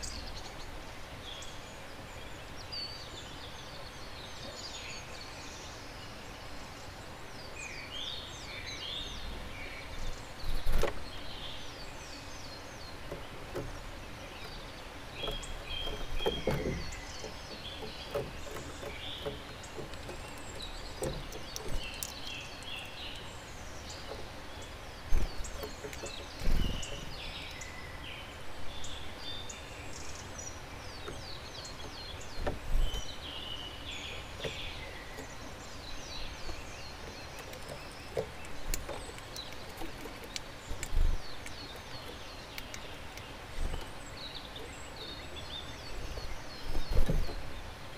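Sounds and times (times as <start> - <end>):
birds chirping and trilling: 0.0 - 47.9.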